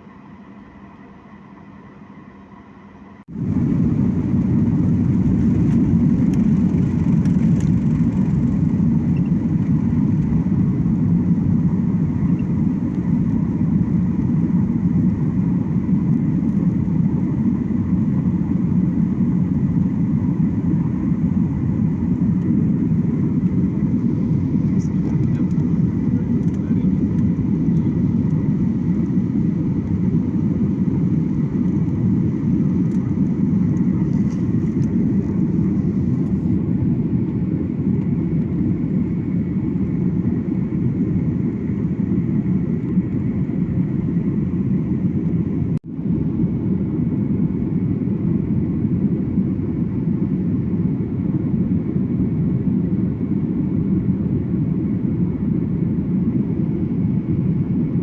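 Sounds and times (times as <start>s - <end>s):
faint steady whine: 0.0s - 50.8s
jet airliner cabin rumble: 0.0s - 58.0s.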